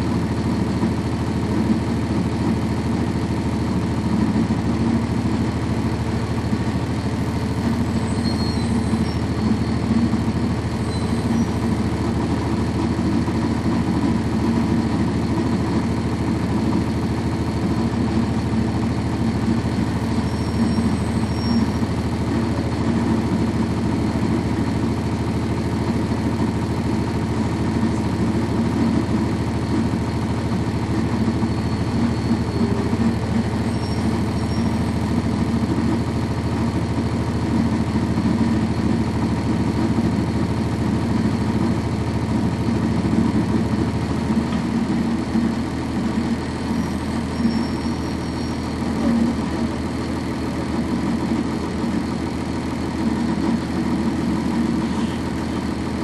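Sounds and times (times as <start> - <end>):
diesel bus engine droning: 0.0 - 56.0.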